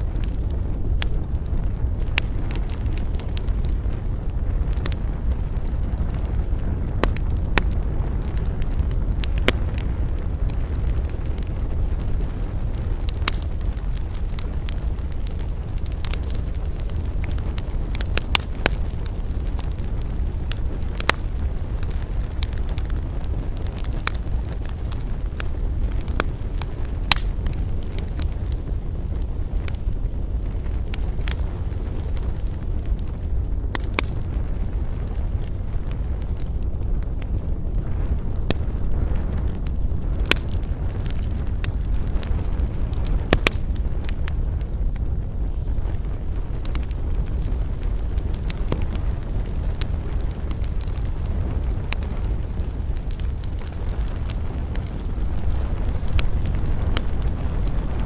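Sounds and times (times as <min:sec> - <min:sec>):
burning wood crackling and popping: 0:00.0 - 0:58.0
low rumble of flames: 0:00.0 - 0:58.0.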